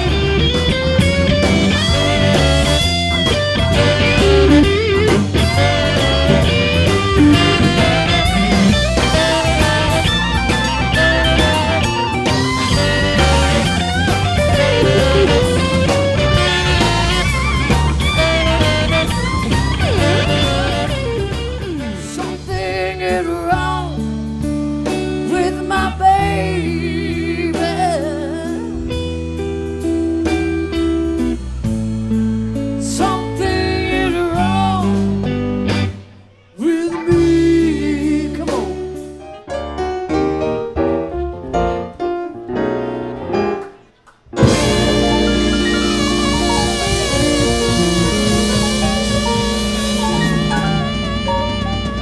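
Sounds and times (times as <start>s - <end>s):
lead guitar: 0.0s - 39.9s, 42.8s - 52.0s
live blues band playing: 0.0s - 52.0s.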